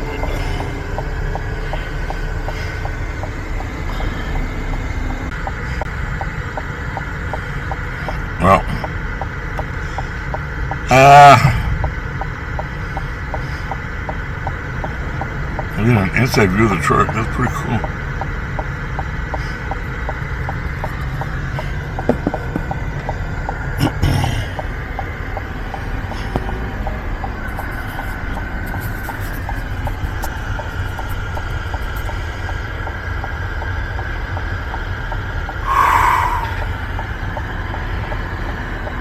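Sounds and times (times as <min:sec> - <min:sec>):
light regular ticking: 0:00.0 - 0:10.9, 0:11.7 - 0:35.9
truck engine rumble: 0:00.0 - 0:39.0.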